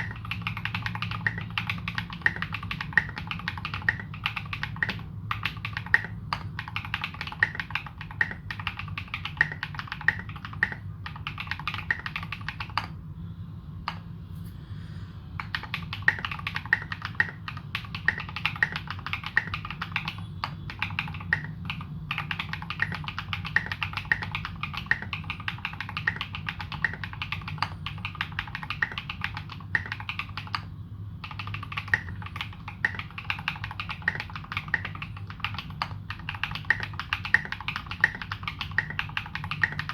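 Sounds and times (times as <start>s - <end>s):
mechanical keyboard typing: 0.0s - 13.0s, 15.4s - 39.9s.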